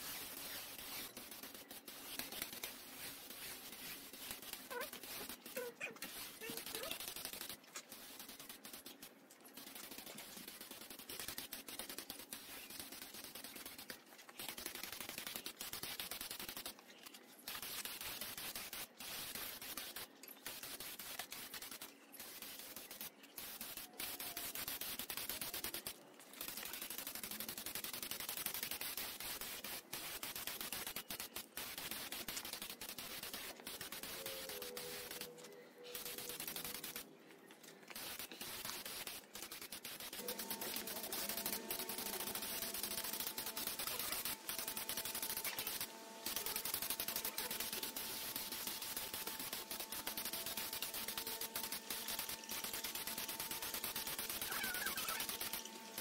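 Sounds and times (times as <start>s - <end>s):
air spray gun hissing: 0.0s - 8.9s, 17.5s - 37.0s, 37.9s - 56.0s.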